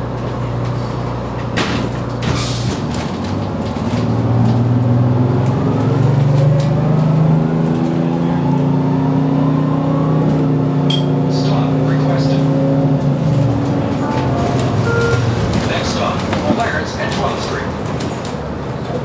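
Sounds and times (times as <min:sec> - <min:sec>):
bus diesel engine: 0:00.0 - 0:19.0.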